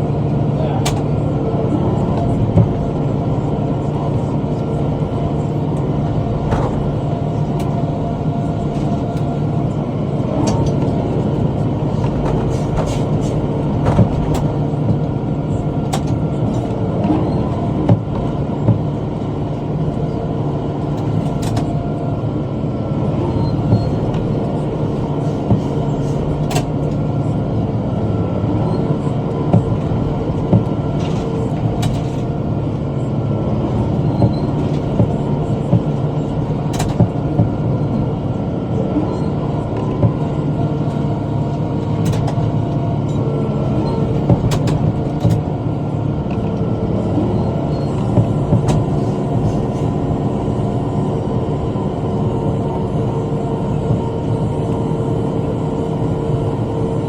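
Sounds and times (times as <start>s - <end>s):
tractor engine running under load: 0.0s - 56.7s.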